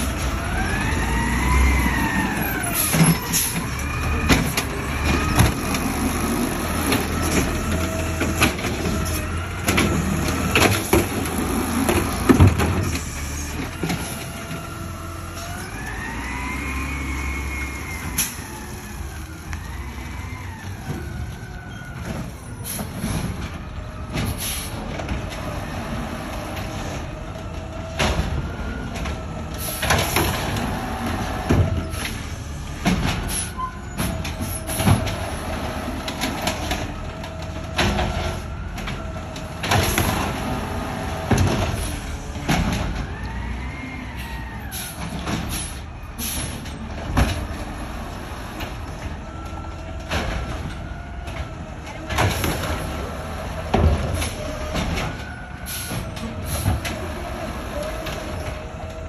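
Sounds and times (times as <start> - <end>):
bins banging and clattering: 2.1 - 15.2, 20.7 - 43.5, 44.7 - 59.0.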